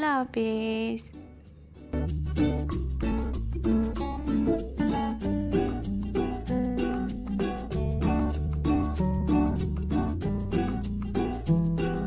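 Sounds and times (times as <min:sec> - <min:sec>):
plucked guitar-like music: 0:01.1 - 0:12.0.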